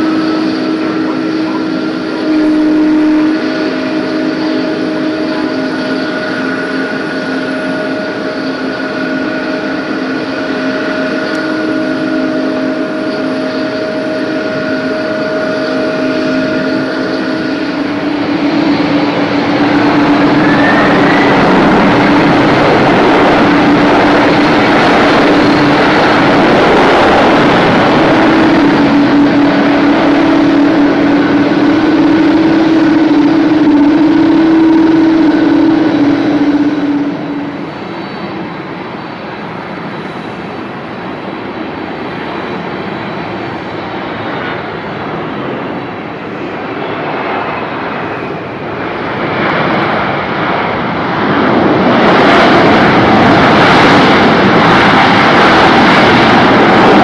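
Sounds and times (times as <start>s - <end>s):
jet engines droning: 0.0s - 57.0s.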